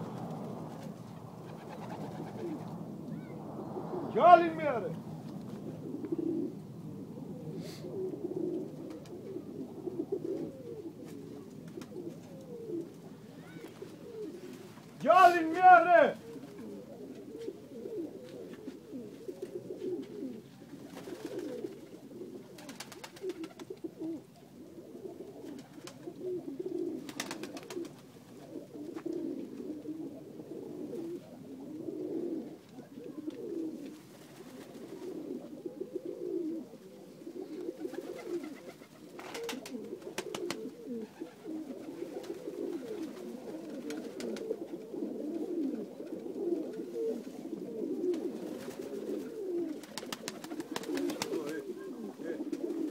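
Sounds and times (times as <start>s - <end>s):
pigeons cooing: 0.0s - 15.1s, 16.0s - 52.9s.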